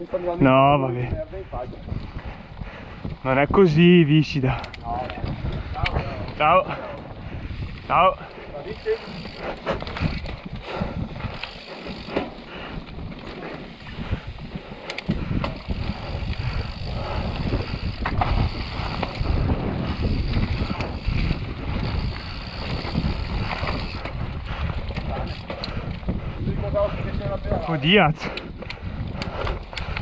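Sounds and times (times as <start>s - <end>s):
bike clicks and rattles: 0.0s - 30.0s
wind buffeting microphone: 0.0s - 30.0s.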